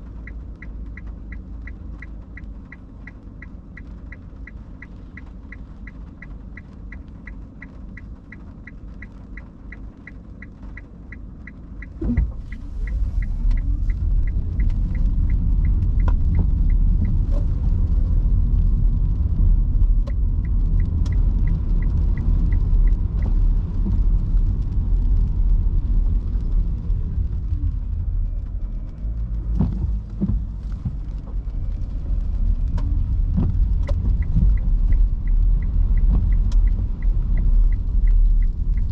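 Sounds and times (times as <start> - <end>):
low road rumble: 0.0 - 38.9
turn signal ticking: 0.0 - 38.9.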